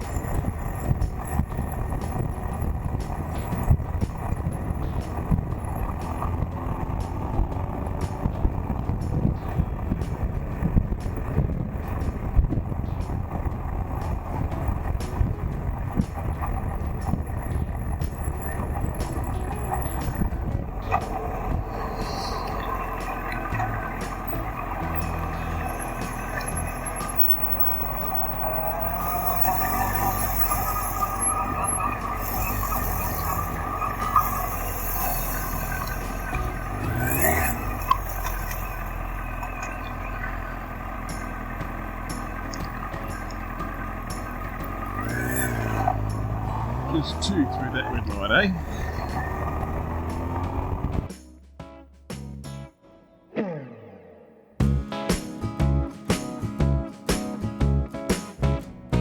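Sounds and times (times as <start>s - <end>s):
wind buffeting microphone: 0.0s - 51.1s
motorcycle engine: 0.0s - 52.2s
road noise: 0.0s - 59.0s.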